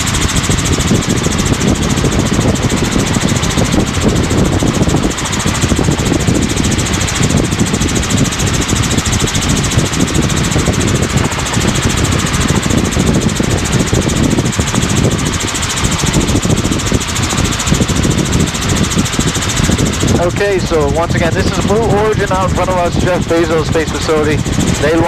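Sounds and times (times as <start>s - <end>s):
helicopter rotor and engine noise: 0.0s - 25.0s.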